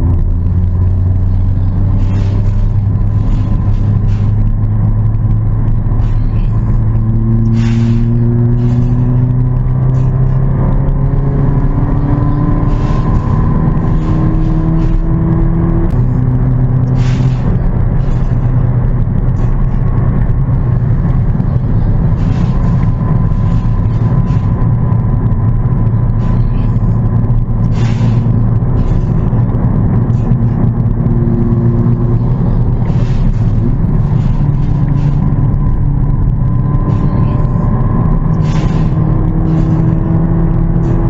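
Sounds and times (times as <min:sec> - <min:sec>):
car engine running: 0:00.0 - 0:41.0.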